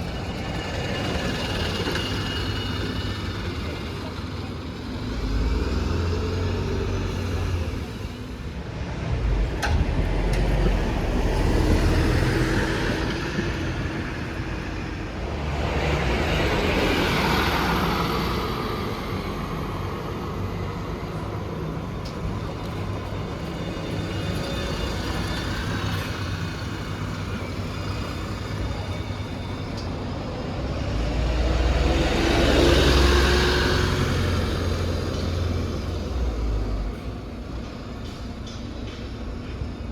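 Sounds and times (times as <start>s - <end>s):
vehicles passing by: 0.0s - 39.1s.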